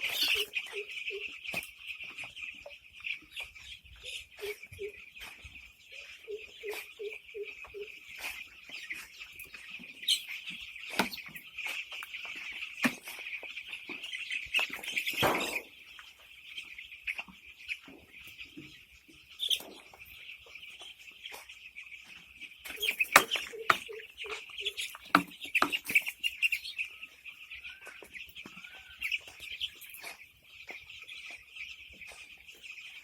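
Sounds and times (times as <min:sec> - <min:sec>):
chicken short calls and clicks: 0:00.0 - 0:33.0
chickens chirping: 0:00.0 - 0:33.0.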